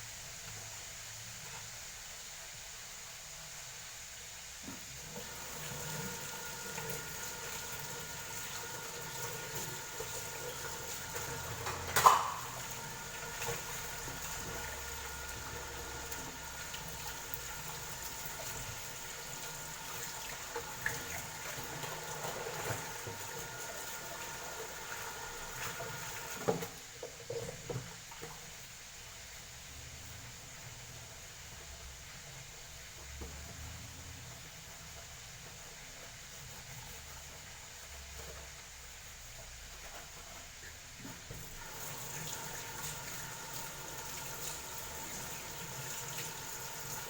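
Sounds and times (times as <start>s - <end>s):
water running from a tap: 0.1s - 47.0s.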